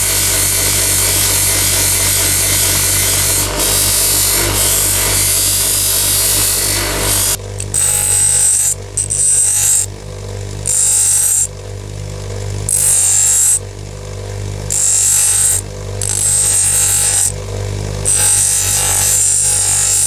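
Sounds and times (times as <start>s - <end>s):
workpiece grinding on wheel: 0.0s - 9.9s, 10.6s - 11.5s, 12.6s - 13.7s, 14.6s - 20.0s
grinding wheel running: 0.0s - 20.0s.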